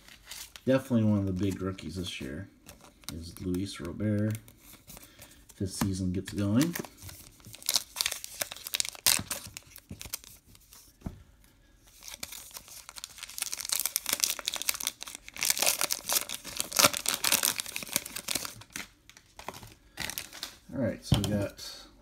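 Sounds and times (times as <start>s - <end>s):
card pack wrapper crinkling and tearing: 0.0s - 2.0s, 2.7s - 10.8s, 11.9s - 20.6s.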